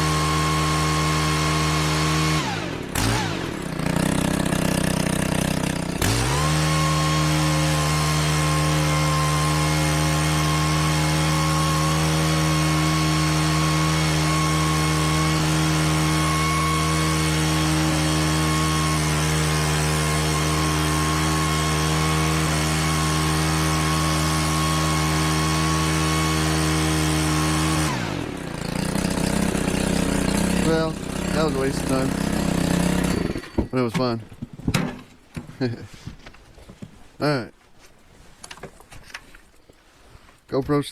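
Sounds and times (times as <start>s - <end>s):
leaf blower running: 0.0s - 34.4s, 35.4s - 36.3s.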